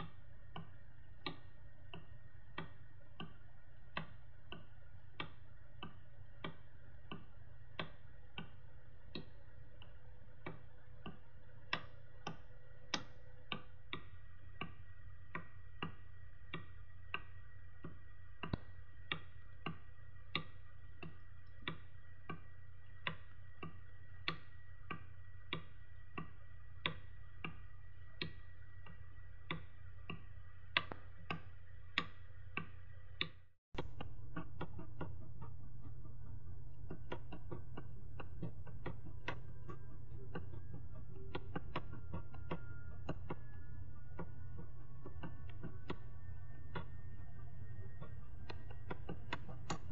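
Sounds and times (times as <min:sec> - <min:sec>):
clock ticking: 0:00.0 - 0:49.9
low steady hum: 0:00.0 - 0:49.9.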